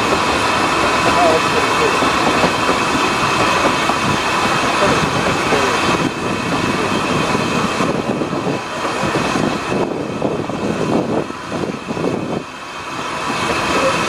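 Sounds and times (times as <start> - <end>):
train rolling slowly: 0.0 - 14.0.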